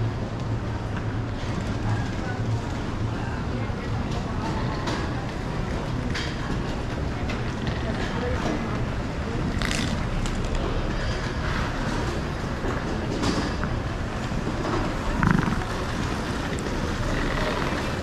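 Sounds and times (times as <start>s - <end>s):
hubbub in echoing hall: 0.0s - 18.0s.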